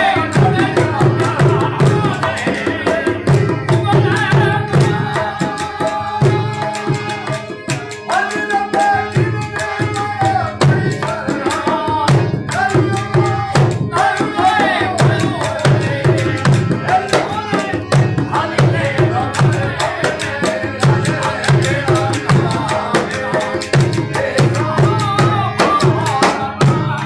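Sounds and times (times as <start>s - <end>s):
hand drum fast rhythm: 0.0s - 27.0s
harmonium reed chords: 0.0s - 27.0s.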